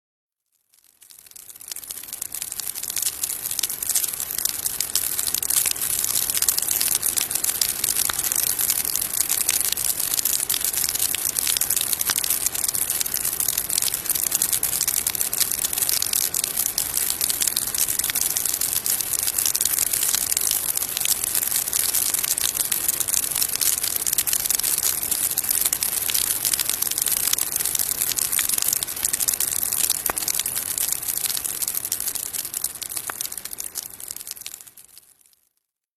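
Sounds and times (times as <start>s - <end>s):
firework fizzing and crackling: 1.0s - 35.0s.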